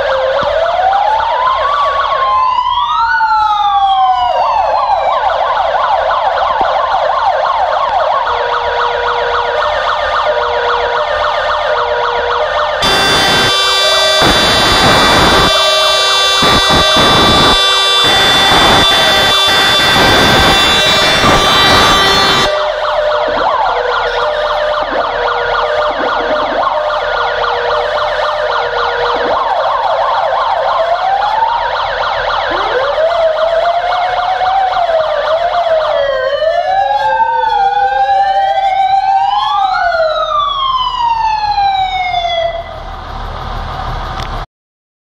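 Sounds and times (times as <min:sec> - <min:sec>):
fire engine siren: 0:00.0 - 0:44.4.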